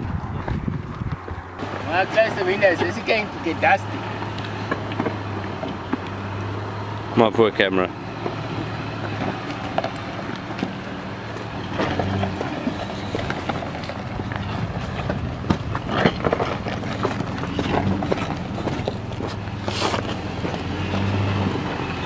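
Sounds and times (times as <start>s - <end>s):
engine running at low revs: 0.0s - 22.0s
stones crunching under tyres: 0.1s - 22.0s.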